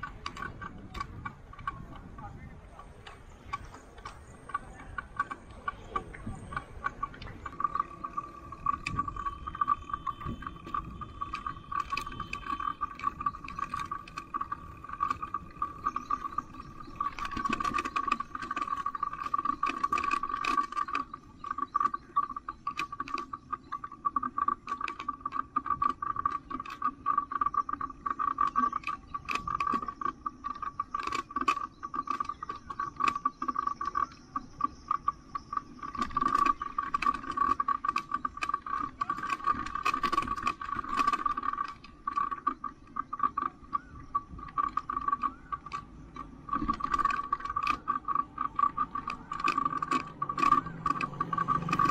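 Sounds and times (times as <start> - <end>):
bicycle rattling and clicking: 0.0 - 51.9.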